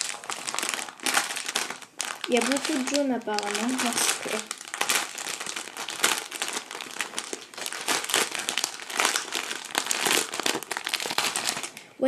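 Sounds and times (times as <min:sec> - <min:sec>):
cellophane and plastic bags crinkling: 0:00.0 - 0:12.0.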